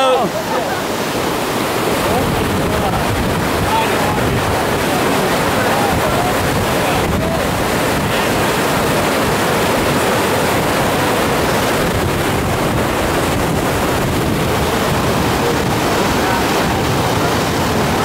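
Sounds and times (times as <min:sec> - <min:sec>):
river water rushing over logs: 0:00.0 - 0:18.0.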